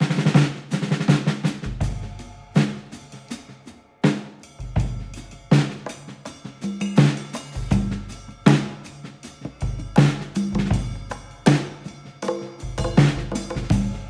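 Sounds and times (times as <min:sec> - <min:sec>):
drum-led background music: 0:00.0 - 0:14.0.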